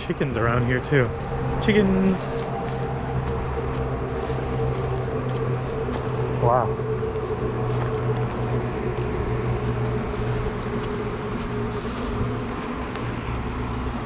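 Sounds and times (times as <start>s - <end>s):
low mechanical hum: 0.0s - 14.0s
outdoor background noise: 0.0s - 14.0s.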